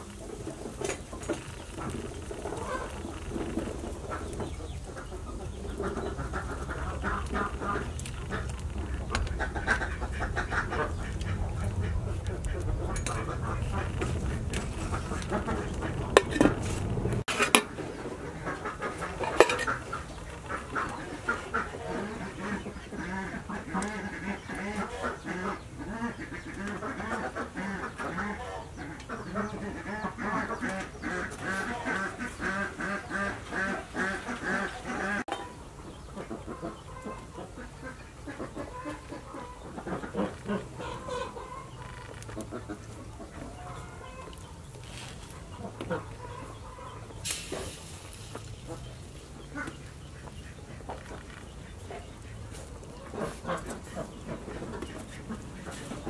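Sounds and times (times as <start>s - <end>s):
ducks and chickens calling: 0.0s - 56.0s.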